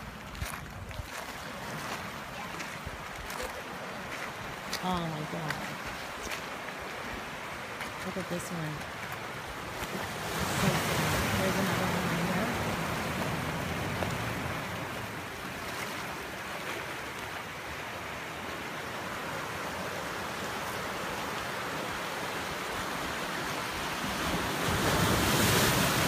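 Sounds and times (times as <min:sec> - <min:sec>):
surf breaking on rocky shore: 0:01.3 - 0:18.0, 0:18.6 - 0:26.0.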